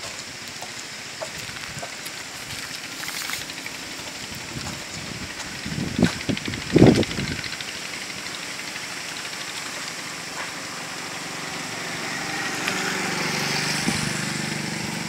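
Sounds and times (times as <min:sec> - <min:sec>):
engine running low: 0:00.0 - 0:15.0
outdoor background noise: 0:00.0 - 0:15.0.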